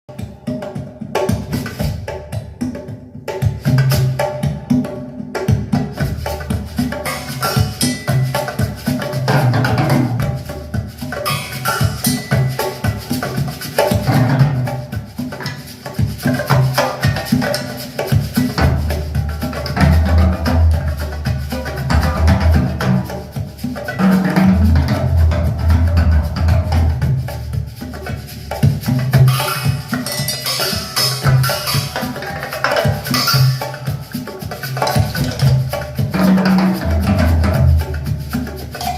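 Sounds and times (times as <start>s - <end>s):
instrumental music with percussion: 0.0s - 38.9s.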